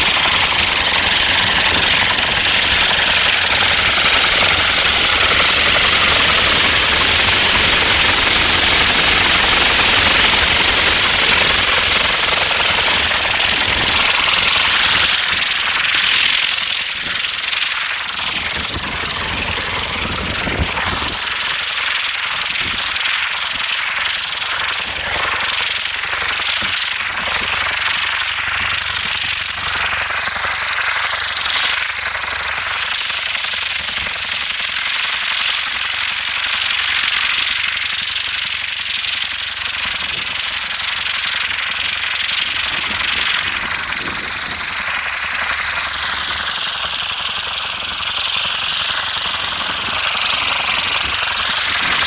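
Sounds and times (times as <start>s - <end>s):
rocket helicopter rushing hiss: 0.0s - 52.0s.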